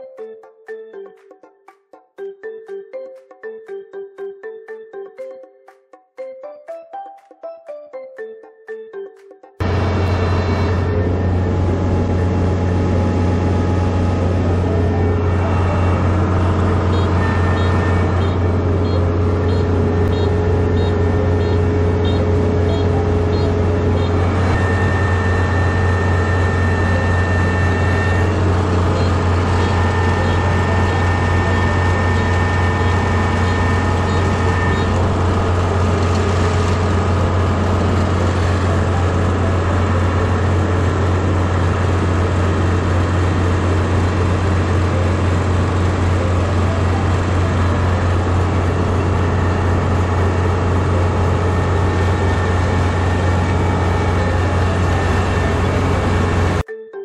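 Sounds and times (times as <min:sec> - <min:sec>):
combine harvester engine drone: 0:09.6 - 0:56.6.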